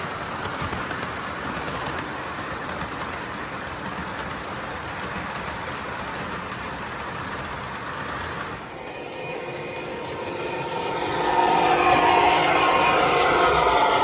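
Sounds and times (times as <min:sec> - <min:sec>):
model train wheels rumbling on track: 0:00.0 - 0:14.0.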